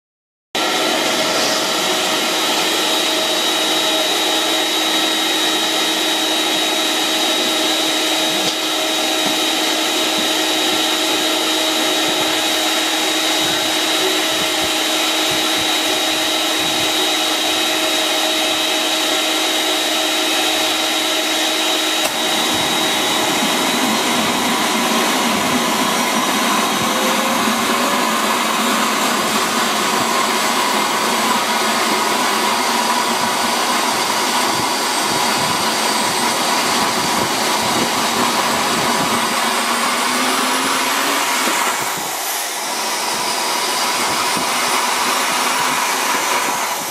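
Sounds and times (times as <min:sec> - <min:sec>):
high engine whine: 0:00.6 - 0:46.9
jet engine air rush: 0:00.6 - 0:46.9.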